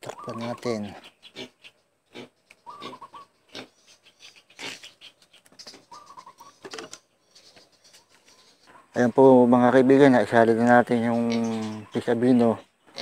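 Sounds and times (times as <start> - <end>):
bird chirps: 0.0 - 9.4, 10.7 - 13.0.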